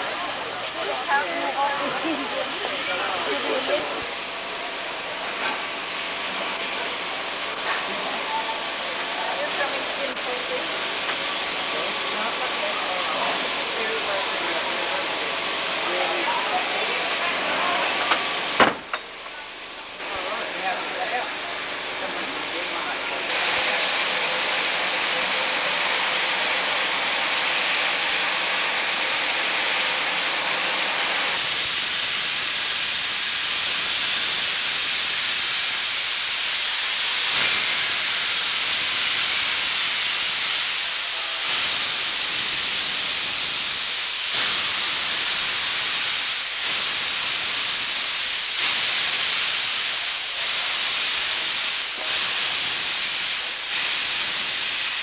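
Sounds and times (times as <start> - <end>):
steam locomotive hissing steam: 0.0 - 55.0.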